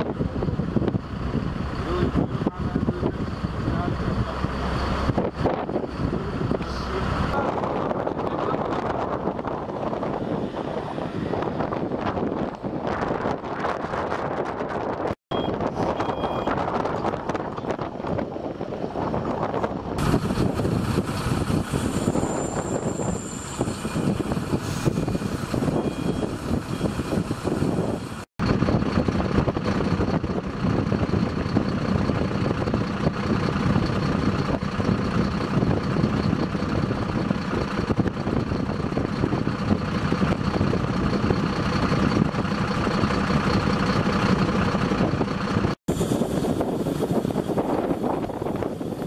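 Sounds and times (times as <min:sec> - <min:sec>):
diesel engine idling: 0:00.0 - 0:13.7, 0:14.3 - 0:49.0.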